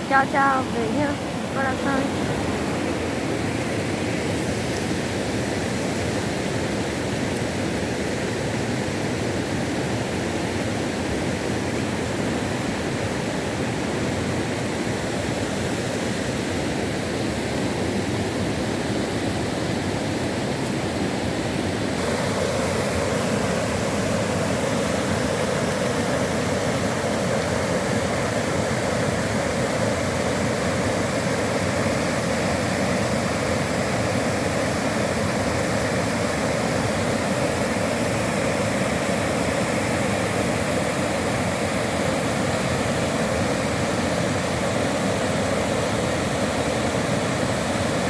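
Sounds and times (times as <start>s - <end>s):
running water rushing: 0.0s - 48.0s.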